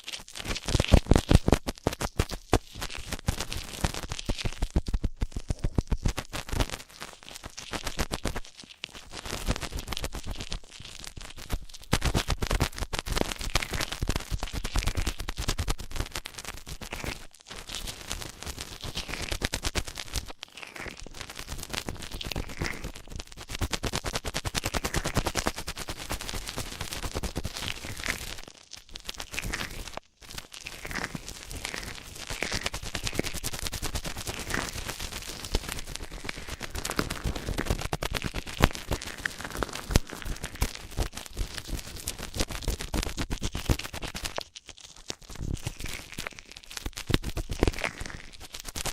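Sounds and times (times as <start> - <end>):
crackling and scratching on microphone: 0.0 - 48.9.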